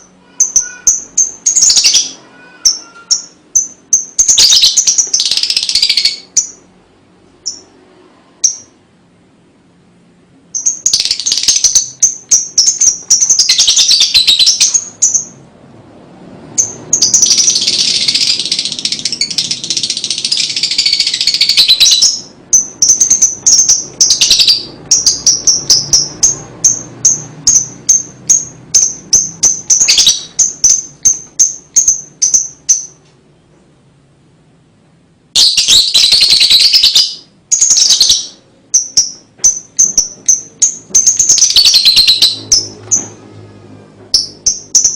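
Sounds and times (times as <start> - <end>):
bird chirping sharply: 0.0 - 6.7, 10.5 - 15.5, 16.5 - 33.0, 35.3 - 43.5, 44.1 - 44.9
lovebird chattering: 0.0 - 6.7, 7.4 - 7.7, 8.4 - 8.8, 10.5 - 15.4, 16.5 - 33.0, 35.3 - 43.2, 44.1 - 44.9.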